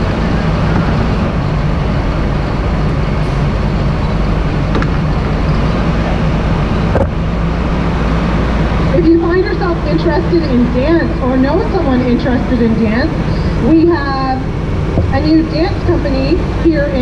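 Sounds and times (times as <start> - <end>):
diesel engine driving past: 0.0 - 17.0.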